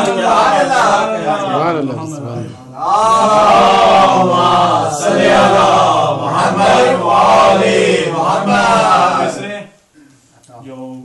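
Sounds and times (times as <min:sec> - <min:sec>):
men chanting: 0:00.0 - 0:09.7.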